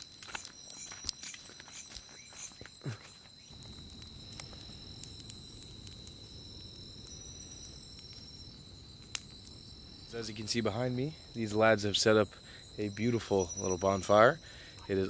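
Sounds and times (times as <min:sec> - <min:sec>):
bonfire crackling: 0:00.0 - 0:15.0
crickets trilling: 0:00.0 - 0:15.0.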